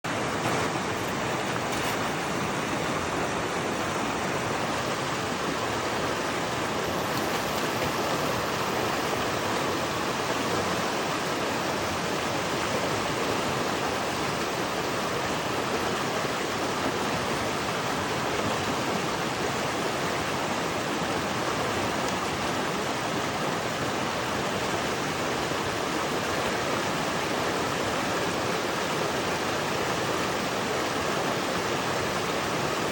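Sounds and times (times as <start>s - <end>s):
fast mountain stream rushing: 0.0s - 32.9s.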